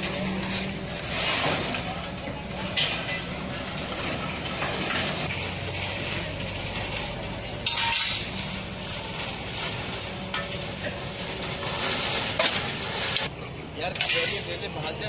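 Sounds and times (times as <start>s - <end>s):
bricks and rubble clattering: 0.0s - 13.3s
falling debris: 0.0s - 13.3s
diesel engine running: 0.0s - 15.0s.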